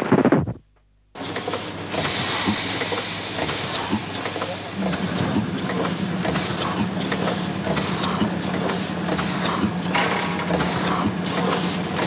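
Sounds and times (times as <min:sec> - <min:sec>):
gears clanking and rattling: 0:01.2 - 0:12.0
heavy machinery humming: 0:01.2 - 0:12.0.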